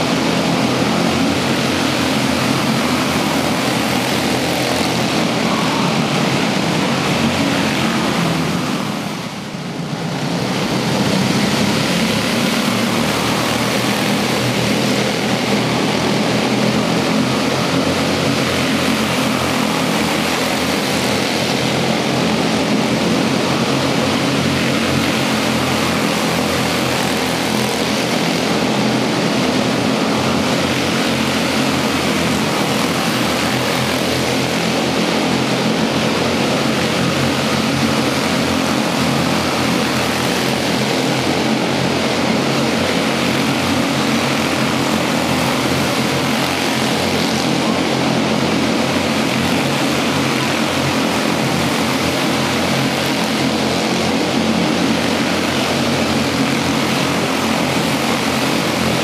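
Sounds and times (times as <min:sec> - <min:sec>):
race car engines buzzing: 0:00.0 - 0:59.0.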